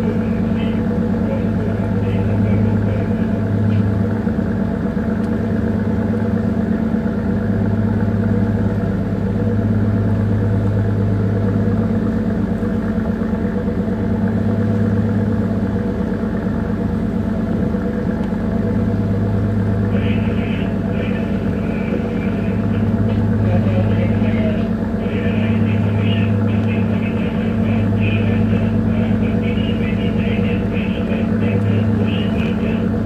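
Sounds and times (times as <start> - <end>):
ship diesel engine drone: 0.0 - 33.0.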